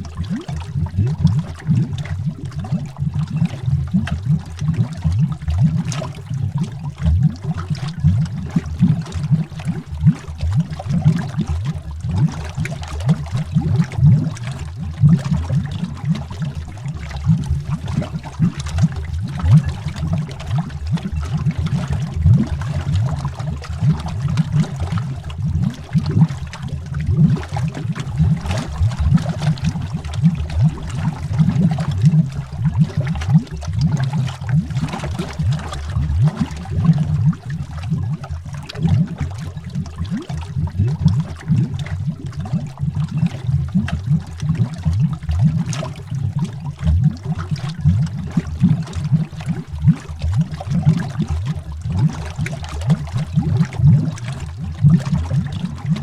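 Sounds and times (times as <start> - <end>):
faint fizz and small ticks: 0.0 - 56.0
underwater bubbling: 0.0 - 56.0.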